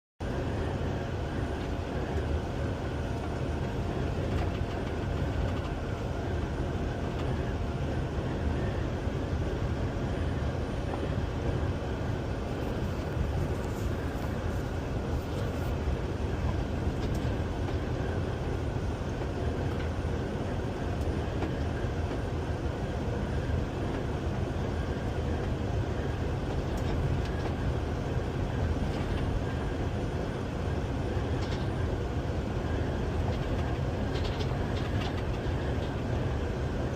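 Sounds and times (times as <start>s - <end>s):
truck engine and road rumble: 0.2s - 36.9s.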